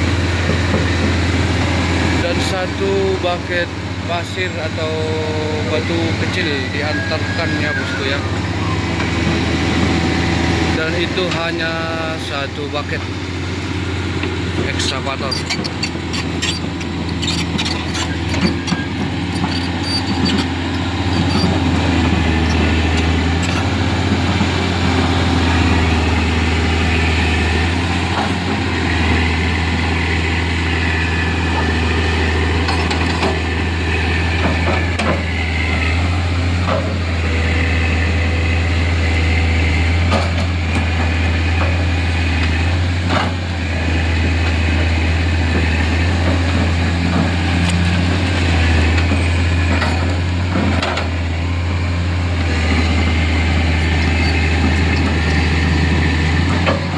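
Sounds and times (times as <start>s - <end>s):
excavator diesel engine running: 0.0s - 56.9s
hydraulic whine: 0.0s - 56.9s.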